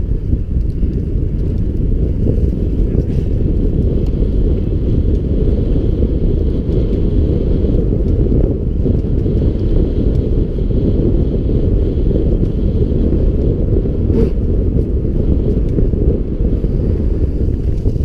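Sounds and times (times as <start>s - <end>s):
bike tyre rumble: 0.0s - 18.0s
wind rush on microphone: 0.0s - 18.0s.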